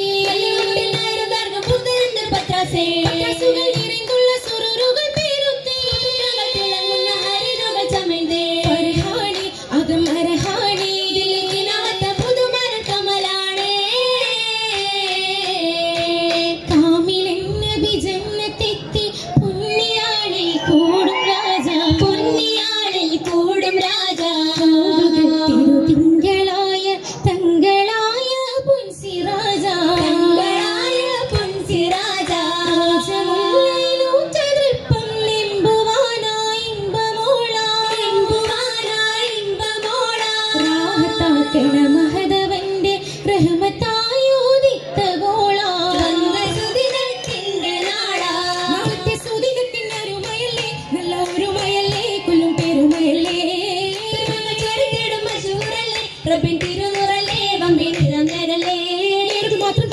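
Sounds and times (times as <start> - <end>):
women singing folk song: 0.0 - 59.9.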